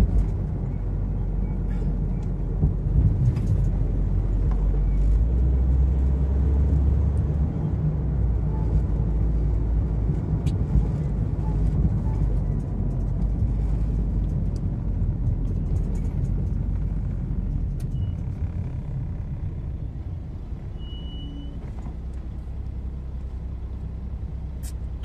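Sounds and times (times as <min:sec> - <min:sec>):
car engine rumble: 0:00.0 - 0:25.0.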